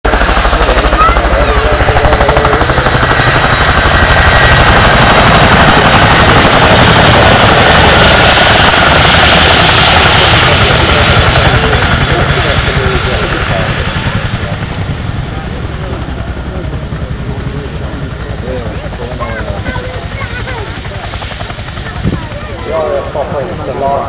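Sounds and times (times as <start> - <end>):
helicopter rotors beating: 0.1 - 24.0
high engine whine: 0.1 - 24.0.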